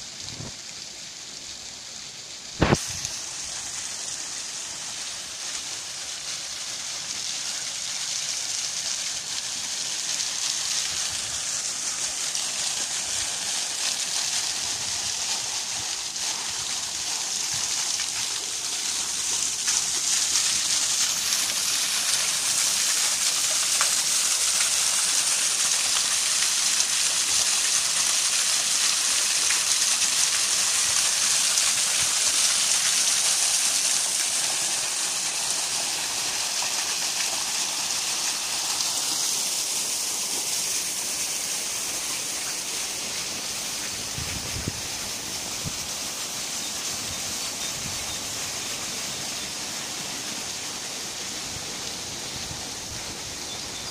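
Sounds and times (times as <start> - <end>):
waterfall splashing on rocks: 0.0 - 53.9.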